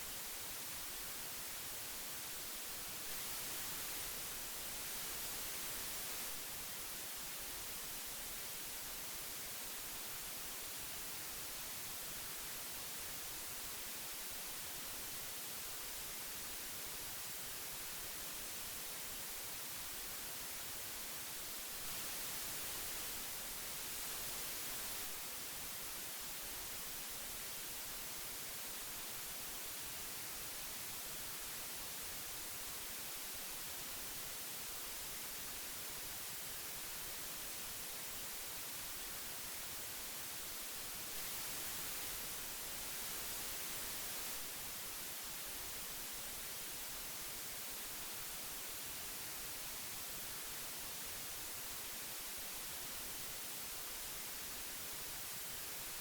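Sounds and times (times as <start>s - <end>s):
magnetic tape hiss: 0.0s - 56.0s.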